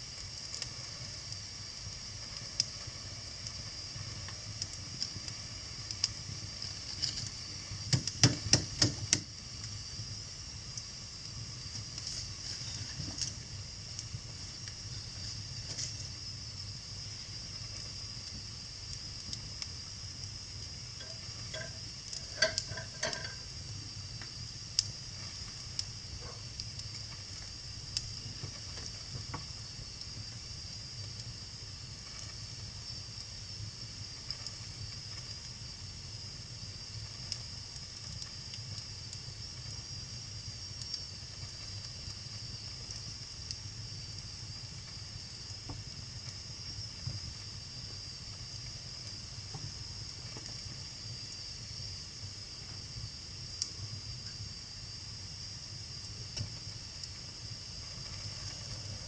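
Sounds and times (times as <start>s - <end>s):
sharp fire pops: 0.0s - 51.8s, 55.7s - 59.0s
wood fire crackling: 0.0s - 59.0s.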